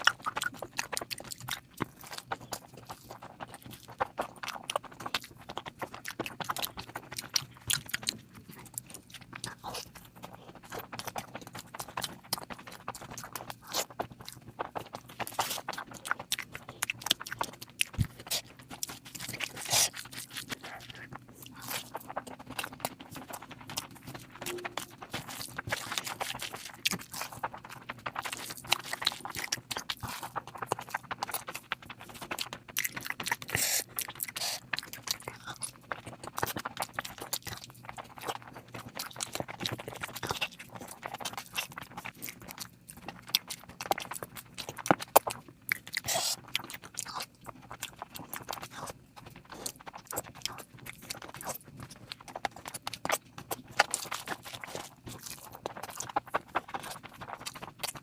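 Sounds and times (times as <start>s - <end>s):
person chewing and eating: 0.0s - 58.0s.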